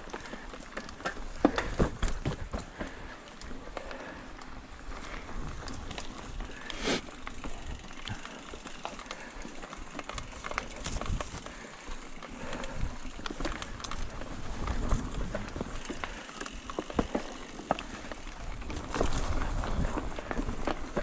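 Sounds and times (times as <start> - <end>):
mountain bike tyres on stony ground: 0.0 - 21.0.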